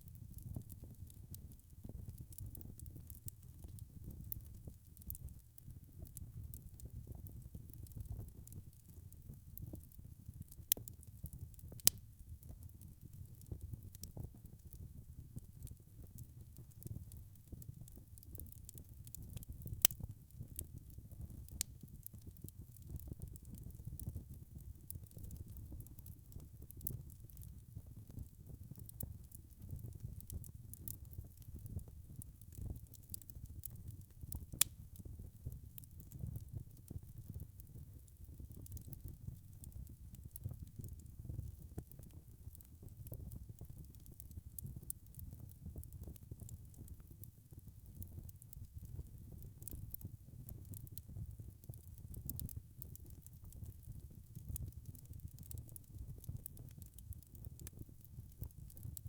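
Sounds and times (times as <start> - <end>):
logs crackling in a fireplace: 0.0 - 59.0.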